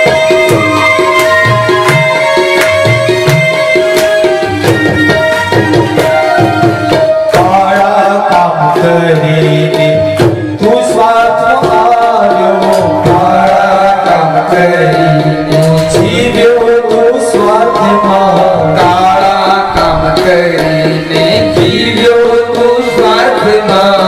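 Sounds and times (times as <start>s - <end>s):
tabla strokes: 0.0s - 24.0s.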